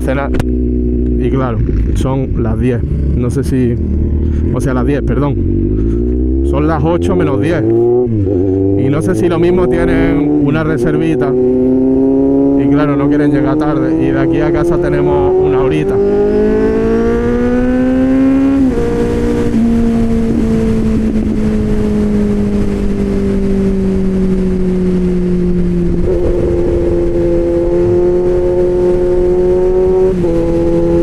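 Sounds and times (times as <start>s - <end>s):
motorcycle engine revving: 0.0s - 31.0s
wind rush on microphone: 0.0s - 31.0s.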